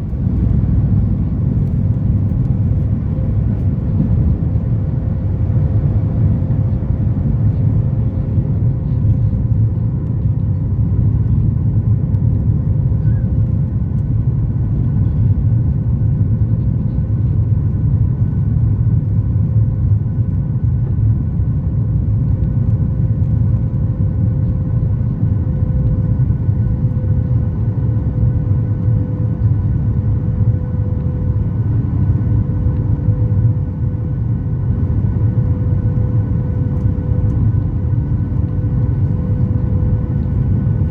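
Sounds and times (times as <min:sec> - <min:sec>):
aircraft engine and airflow rumble: 0:00.0 - 0:40.9
faint steady hum: 0:00.0 - 0:40.9.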